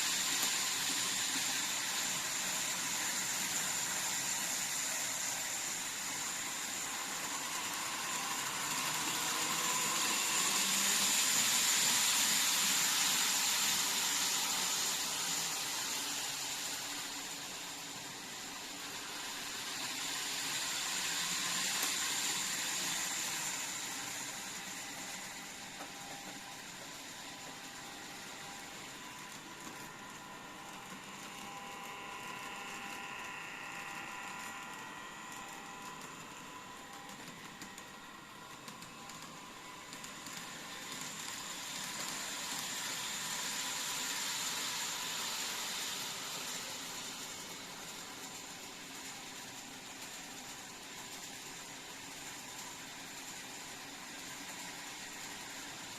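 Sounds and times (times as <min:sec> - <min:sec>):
model train motor whine: 0:00.0 - 0:55.9.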